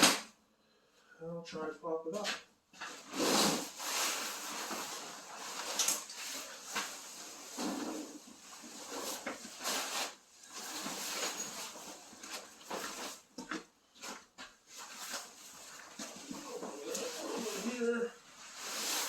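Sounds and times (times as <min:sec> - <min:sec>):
fabric rustling and flapping: 0:02.8 - 0:19.0.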